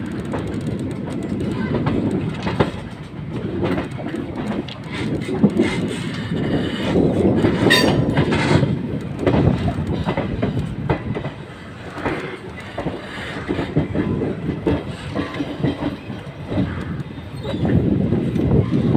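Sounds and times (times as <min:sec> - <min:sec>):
train rumble: 0:00.0 - 0:18.9
wheels clicking over rail joints: 0:00.0 - 0:18.9.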